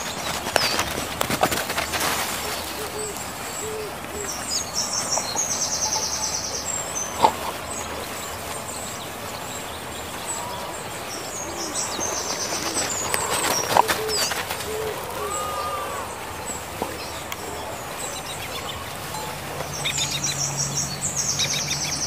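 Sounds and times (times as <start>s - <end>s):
birds chirping and trilling: 0.0s - 22.0s
steady background noise: 0.0s - 22.0s.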